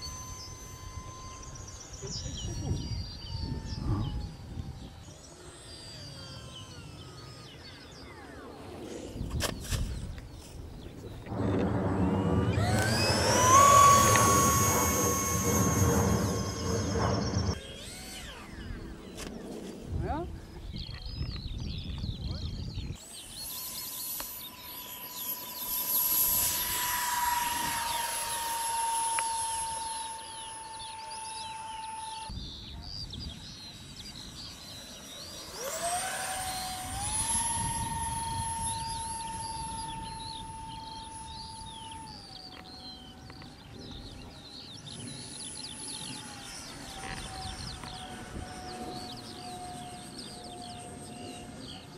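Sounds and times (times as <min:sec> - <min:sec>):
birds chirping: 0:00.0 - 0:51.9
electric ducted fan whining: 0:00.0 - 0:51.9.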